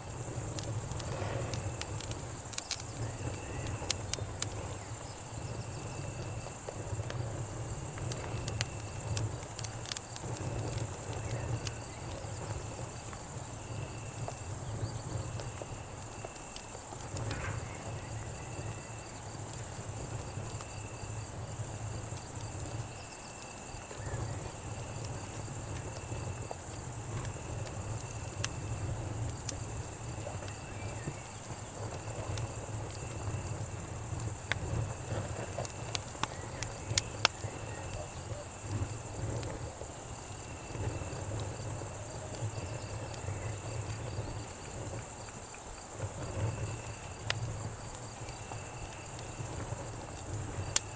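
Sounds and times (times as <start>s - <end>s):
campfire crackling: 0.0s - 50.9s
cicadas buzzing: 0.0s - 50.9s
cricket chirps: 0.0s - 50.9s.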